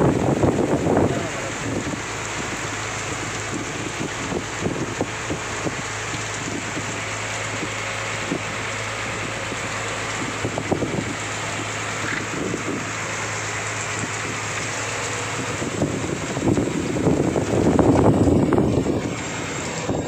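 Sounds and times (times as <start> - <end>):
boat engine hum: 0.0 - 20.0
heavy rain hissing: 0.0 - 20.0.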